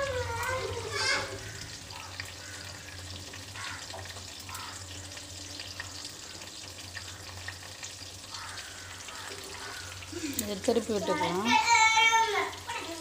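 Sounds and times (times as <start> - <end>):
mushrooms sizzling in hot oil: 0.0 - 13.0.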